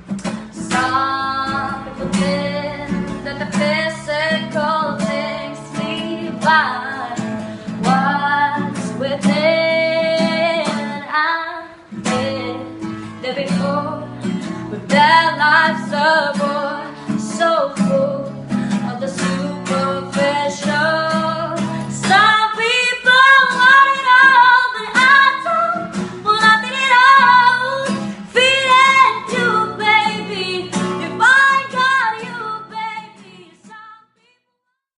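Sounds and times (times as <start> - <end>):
strummed acoustic guitar: 0.0 - 34.0
woman singing a ballad: 0.2 - 34.4.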